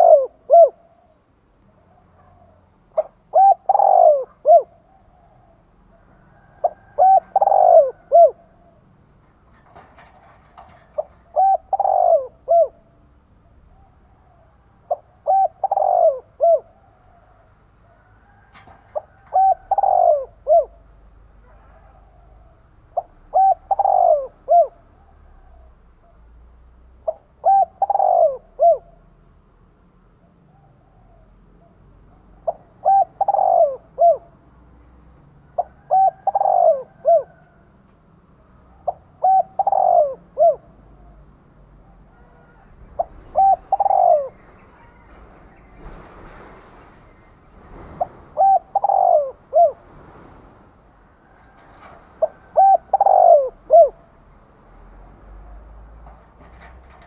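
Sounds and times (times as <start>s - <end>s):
dove cooing: 0.0s - 26.3s, 26.9s - 29.1s, 30.2s - 50.0s, 51.2s - 57.0s.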